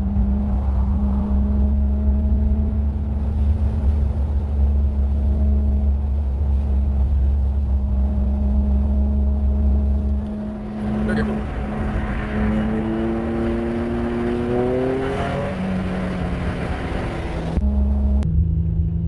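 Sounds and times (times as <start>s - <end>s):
car engine droning steadily: 0.0s - 19.0s.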